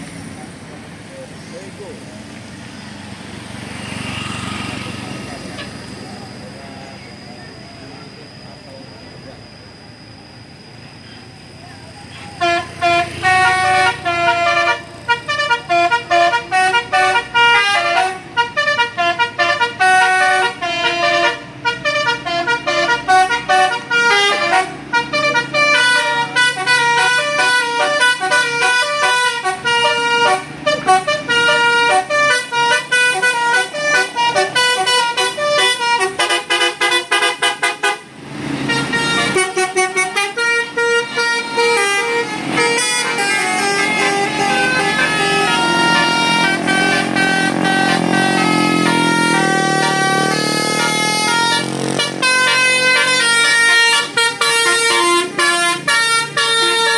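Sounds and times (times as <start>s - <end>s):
multi-tone bus horn melody: 3.3s - 8.2s, 11.7s - 56.9s.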